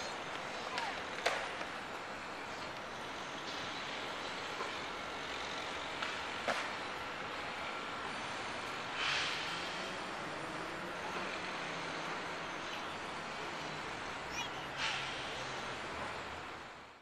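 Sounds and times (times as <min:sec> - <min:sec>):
city road traffic hum: 0:00.0 - 0:17.0.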